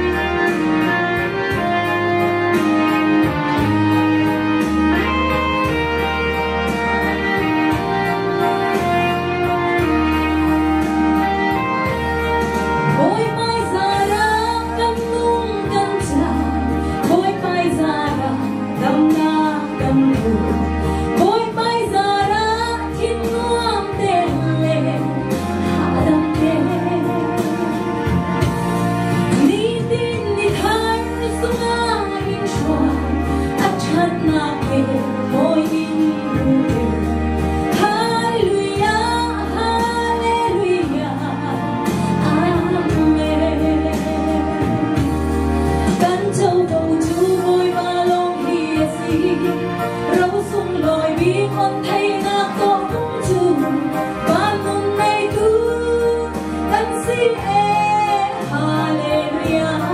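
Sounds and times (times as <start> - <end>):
woman singing worship song: 0.0 - 1.9, 12.7 - 59.9
backing music with bass: 0.0 - 59.9.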